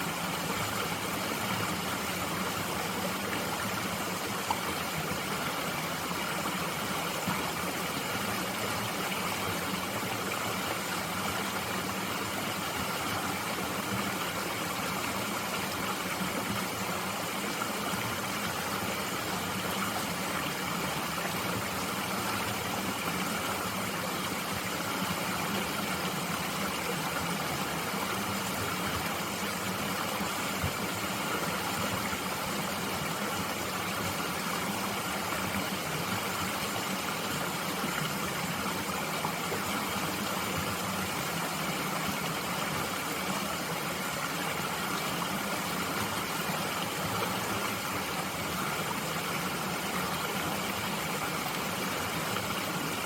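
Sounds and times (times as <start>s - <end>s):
stream flowing over rocks: 0.0s - 53.0s.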